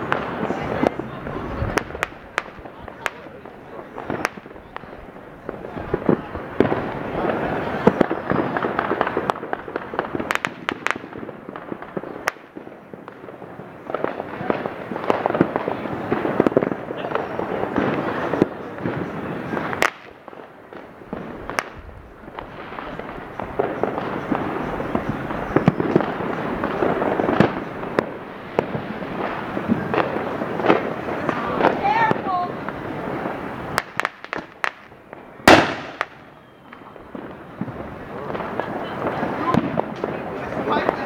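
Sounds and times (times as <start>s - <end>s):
firecrackers crackling: 0.0s - 41.0s
loud firework bangs: 0.0s - 41.0s.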